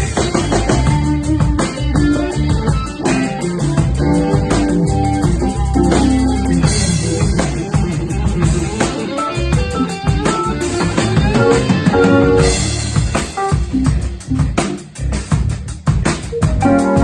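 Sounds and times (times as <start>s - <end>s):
electric guitar notes: 0.0s - 14.8s, 16.4s - 17.0s
bass guitar: 0.0s - 17.0s
drum kit steady beat: 0.0s - 17.0s.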